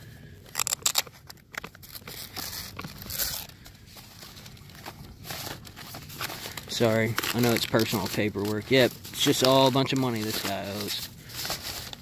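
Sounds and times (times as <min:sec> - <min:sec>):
paper and envelopes rustling: 0:00.0 - 0:12.0.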